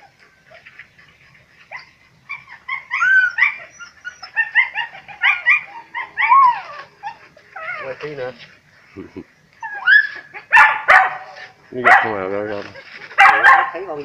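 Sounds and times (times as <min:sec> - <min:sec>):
dogs yelping and whining: 0:00.0 - 0:08.4, 0:09.5 - 0:13.8.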